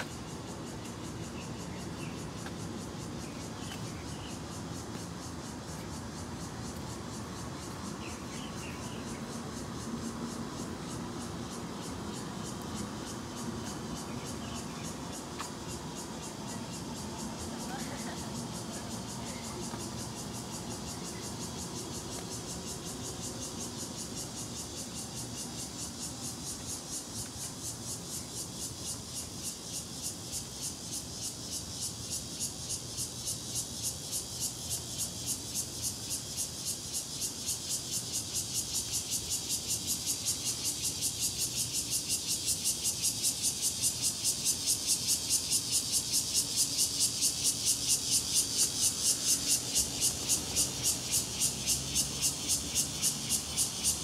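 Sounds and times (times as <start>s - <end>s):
cicadas chirping: 0.0s - 54.0s.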